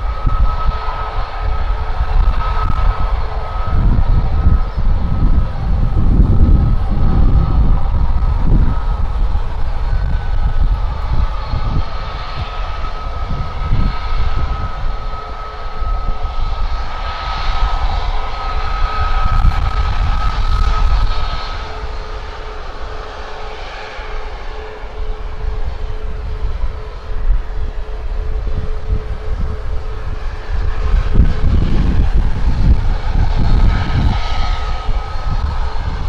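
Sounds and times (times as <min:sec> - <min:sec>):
jet engine whine and rumble: 0:00.0 - 0:36.0
wind buffeting microphone: 0:00.0 - 0:36.0.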